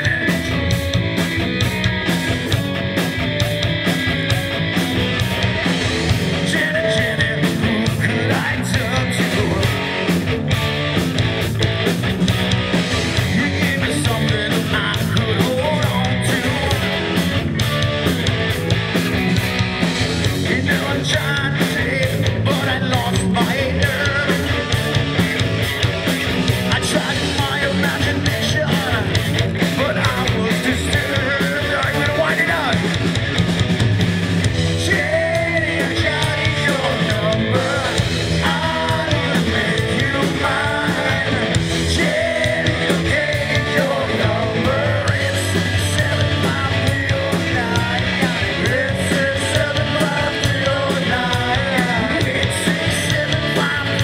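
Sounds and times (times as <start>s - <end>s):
rock song with singing: 0.0s - 54.0s.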